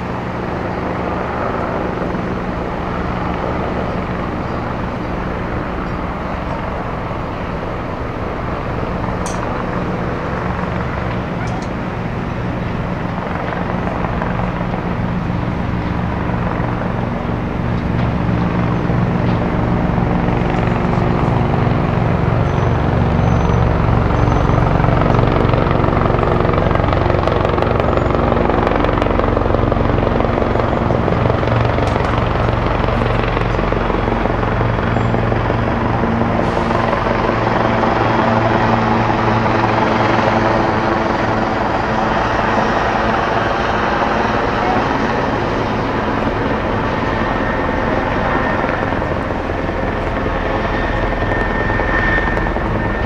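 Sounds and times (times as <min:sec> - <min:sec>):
helicopter rotor beat: 0:00.0 - 0:53.0.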